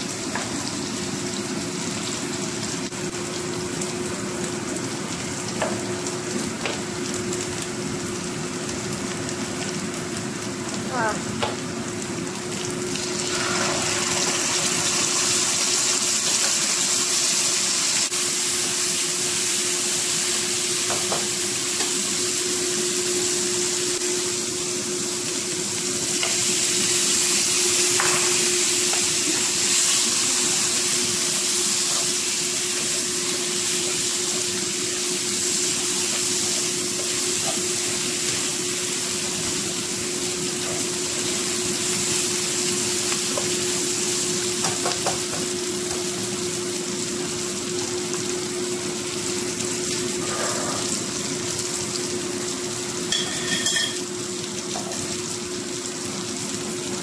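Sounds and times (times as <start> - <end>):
spice paste sizzling in hot oil: 0.0 - 57.0.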